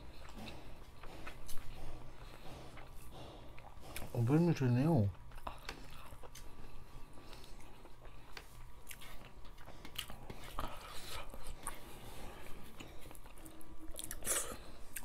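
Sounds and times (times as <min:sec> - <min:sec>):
people chewing with wet smacks: 0:00.0 - 0:15.0.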